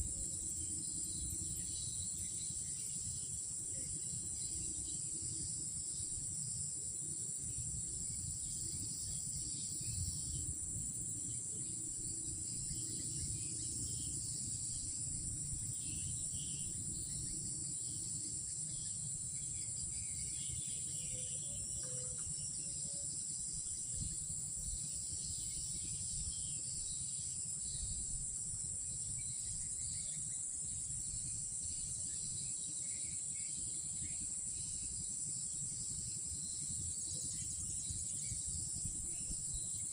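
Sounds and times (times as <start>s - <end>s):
faint insect chirps: 0.0s - 39.9s
insects trilling: 0.0s - 39.9s.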